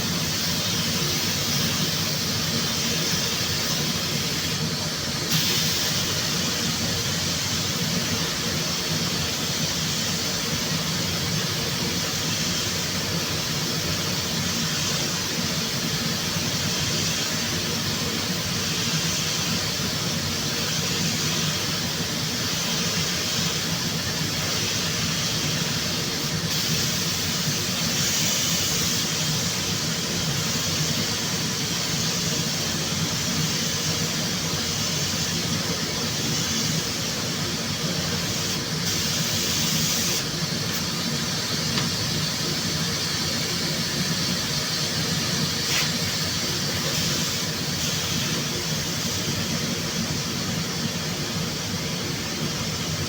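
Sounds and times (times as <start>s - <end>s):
loud air hiss: 0.0s - 53.0s.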